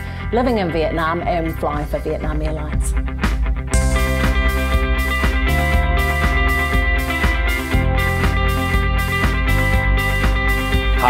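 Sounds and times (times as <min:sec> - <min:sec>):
rock music with steady beat: 0:01.3 - 0:11.0.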